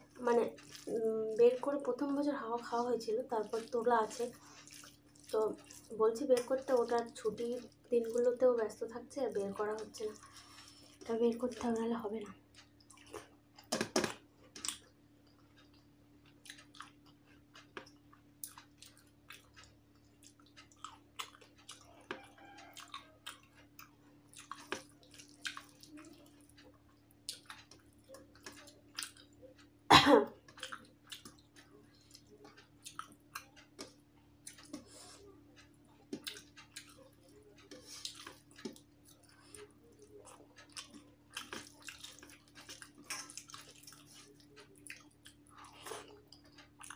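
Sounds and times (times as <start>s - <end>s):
wet chewing and lip-smacking: 0.0s - 8.8s, 12.2s - 29.8s, 30.4s - 46.9s.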